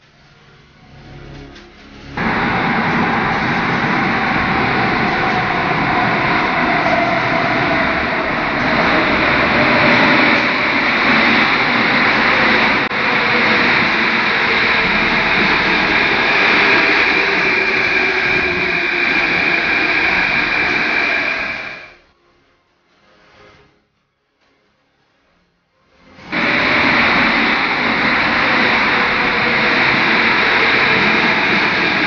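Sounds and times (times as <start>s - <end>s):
metro train rumble with whine: 0.0s - 22.1s, 26.0s - 32.0s.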